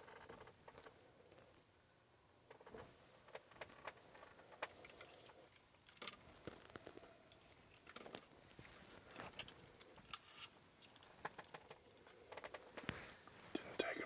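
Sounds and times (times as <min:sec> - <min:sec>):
faint rustling: 0:02.5 - 0:14.0.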